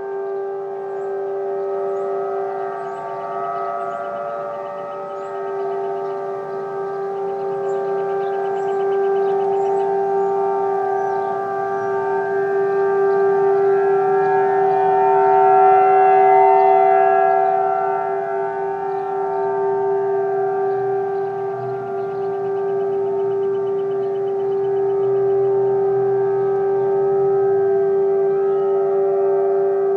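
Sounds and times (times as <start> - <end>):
warning sirens steady tone: 0.0 - 29.9.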